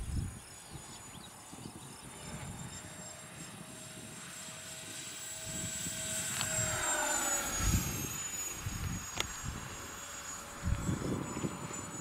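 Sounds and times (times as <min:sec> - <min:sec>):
model jet fans whining: 0:00.0 - 0:12.0.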